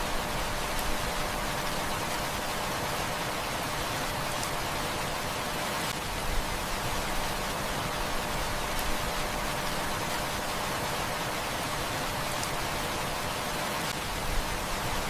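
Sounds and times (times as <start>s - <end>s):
faint wood fire crackles: 0.0s - 14.8s
heavy rain hissing: 0.0s - 15.0s.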